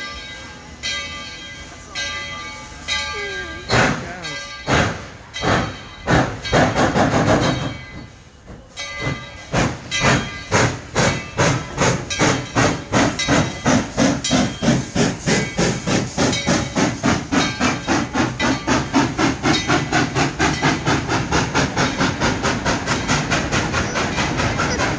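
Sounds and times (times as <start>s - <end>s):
steady hiss of steam: 0.0s - 24.9s
steam locomotive chuffing: 0.0s - 24.9s.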